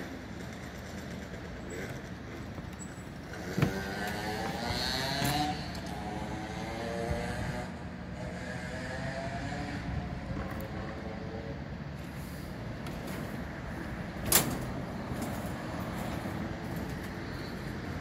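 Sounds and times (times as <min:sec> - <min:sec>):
distant street traffic: 0:00.0 - 0:18.0.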